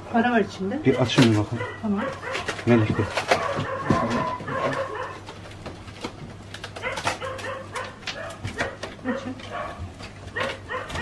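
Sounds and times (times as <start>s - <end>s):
dogs whining and barking: 0.8s - 5.4s, 6.7s - 11.0s
box being handled: 2.0s - 11.0s.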